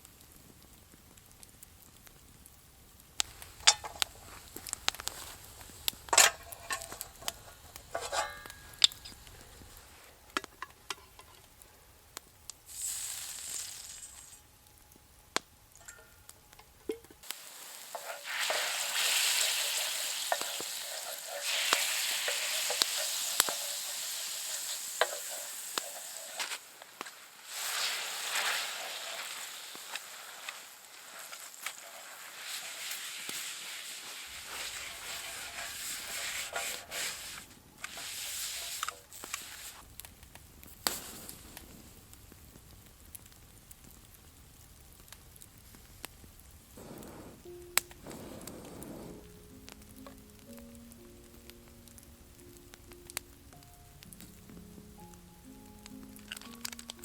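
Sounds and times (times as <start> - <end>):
food sizzling in a pan: 3.1 - 11.6, 12.6 - 14.6, 17.0 - 44.2, 45.0 - 57.0.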